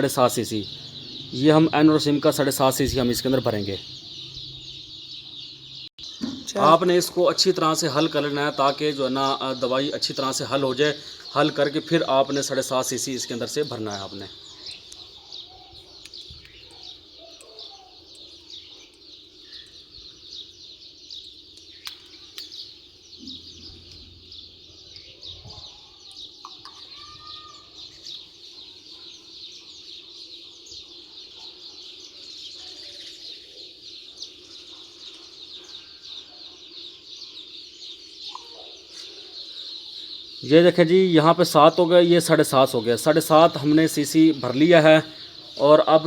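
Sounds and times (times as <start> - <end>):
chicks peeping: 0.0 - 9.3, 13.2 - 46.0.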